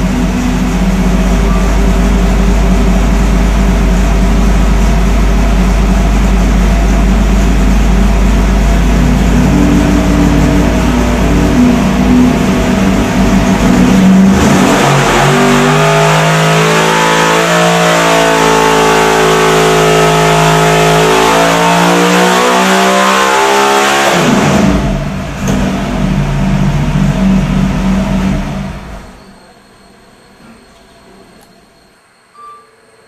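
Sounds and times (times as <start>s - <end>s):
racing engine revving at full throttle: 0.0s - 29.0s.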